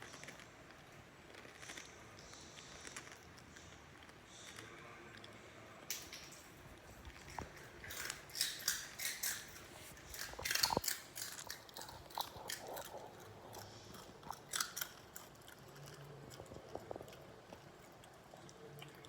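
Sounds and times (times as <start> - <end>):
dog chewing crunchy food: 0.0 - 19.0.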